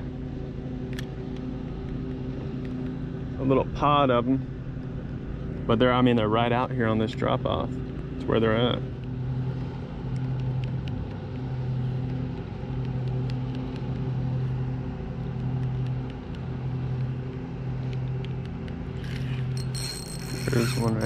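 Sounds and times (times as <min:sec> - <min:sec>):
motor-like hum: 0:00.0 - 0:21.0.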